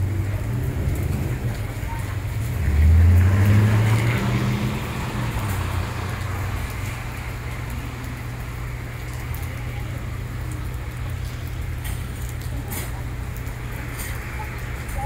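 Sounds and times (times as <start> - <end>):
heavy rain on asphalt: 0.0 - 15.0
vehicle engine hum: 0.0 - 15.0.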